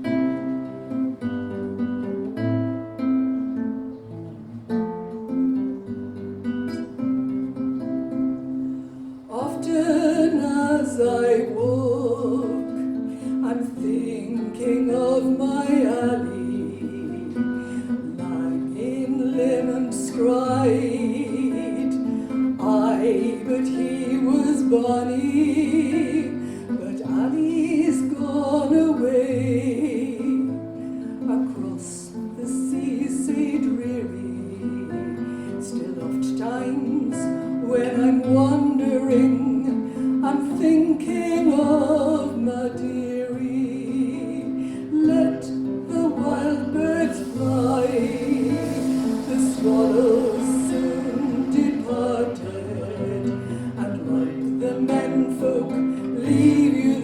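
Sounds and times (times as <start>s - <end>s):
acoustic guitar: 0.0s - 57.0s
woman singing: 9.2s - 57.0s.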